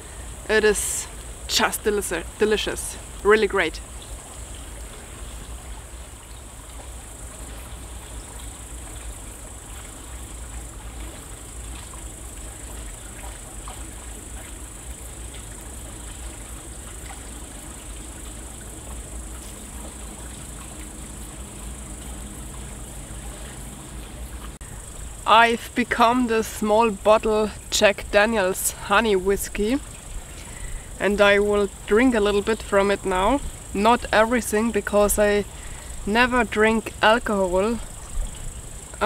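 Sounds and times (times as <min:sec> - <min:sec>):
night insects trilling: 0:00.0 - 0:39.0.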